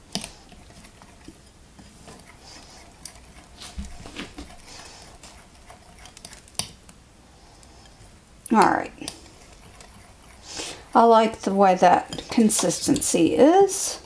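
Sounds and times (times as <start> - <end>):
spoon scraping batter bowl: 0.0 - 13.8.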